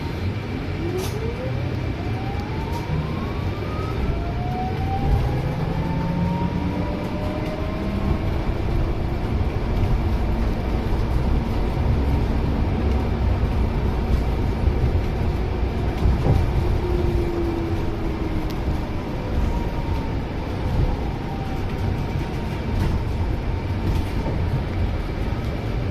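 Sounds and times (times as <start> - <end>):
bus engine drone: 0.0 - 25.9
road rumble: 0.0 - 25.9.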